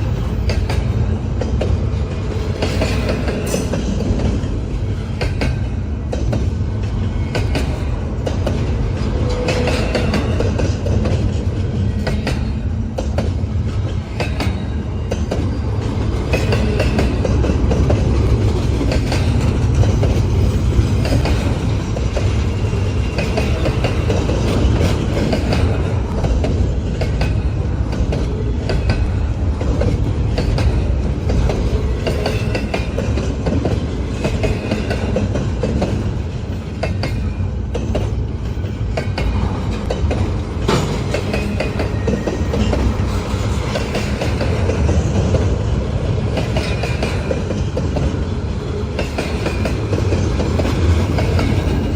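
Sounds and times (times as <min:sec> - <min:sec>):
train rumble: 0:00.0 - 0:51.9
train wheels clicking over rail joints: 0:00.0 - 0:51.9.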